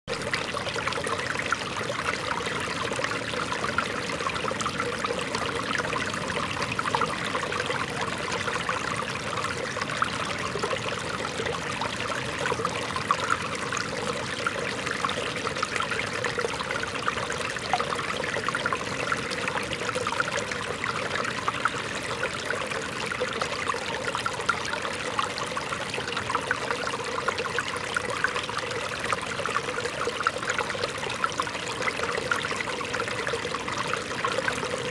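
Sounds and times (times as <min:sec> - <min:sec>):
stream babbling over stones: 0:00.1 - 0:34.9.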